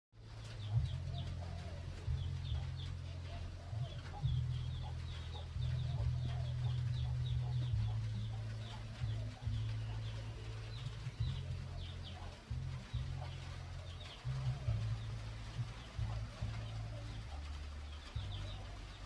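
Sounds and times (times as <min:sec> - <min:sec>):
birds calling: 0:00.2 - 0:19.0
uneven low rumble: 0:00.2 - 0:19.0.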